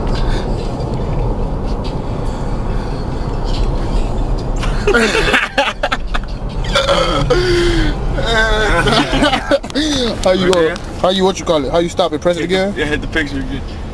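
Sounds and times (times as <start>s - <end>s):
car cabin rumble: 0.0s - 13.9s.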